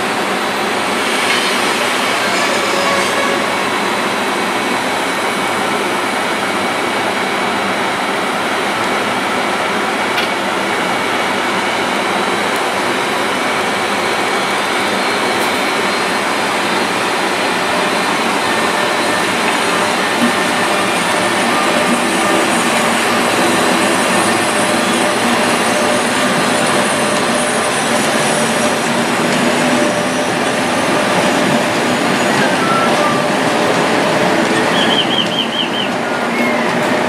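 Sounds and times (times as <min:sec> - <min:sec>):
train whooshing past: 0:00.0 - 0:37.0.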